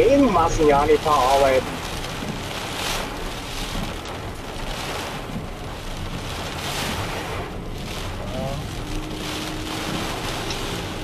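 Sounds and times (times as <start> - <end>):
heavy rain on a car: 0.0 - 11.0
windscreen wipers swishing: 0.0 - 11.0.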